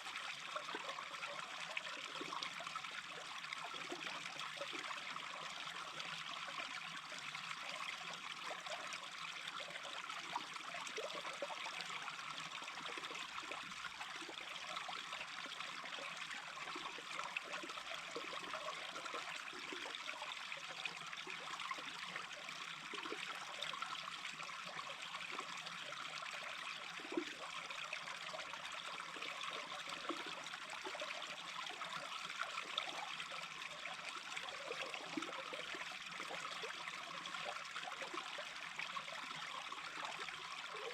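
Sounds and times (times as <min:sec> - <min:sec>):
brook trickling and gurgling: 0:00.0 - 0:40.9.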